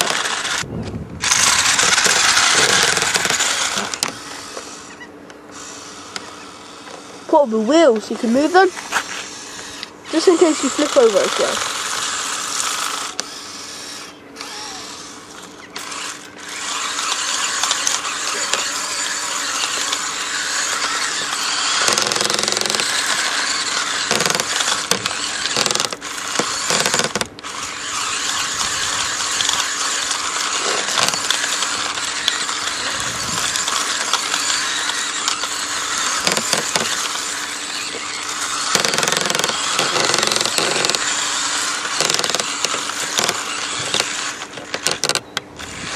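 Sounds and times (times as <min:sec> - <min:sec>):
remote-control car motor whine: 0:00.0 - 0:45.9.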